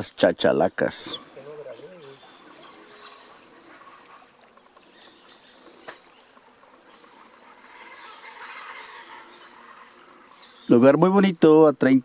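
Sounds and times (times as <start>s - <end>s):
chorus of birds calling: 0.9s - 11.6s.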